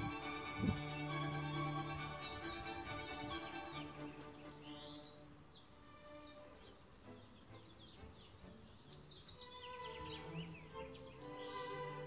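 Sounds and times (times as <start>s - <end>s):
background music held tones: 0.0s - 12.0s
songbirds chirping: 0.0s - 12.0s.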